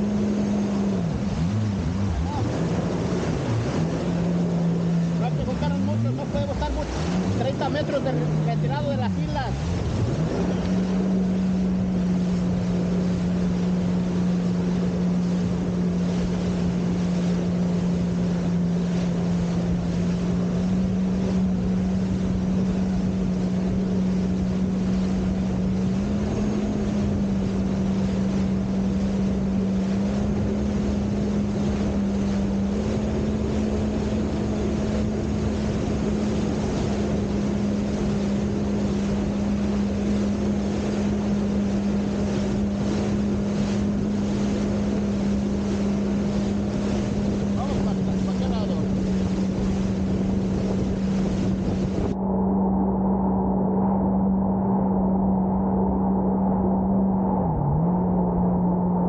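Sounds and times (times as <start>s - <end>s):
jet ski engine running: 0.0s - 59.0s.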